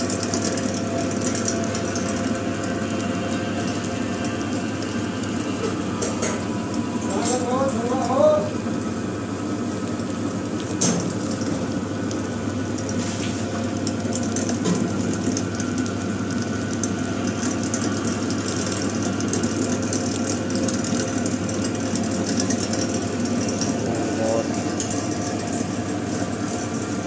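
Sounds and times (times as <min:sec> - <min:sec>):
meat mincer motor hum: 0:00.0 - 0:27.0.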